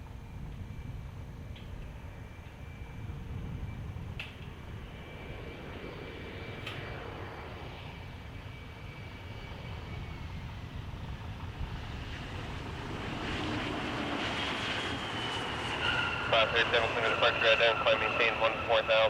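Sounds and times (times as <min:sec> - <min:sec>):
airliner engines rushing and whining: 0:00.0 - 0:19.0
higher engine whine: 0:00.0 - 0:19.0.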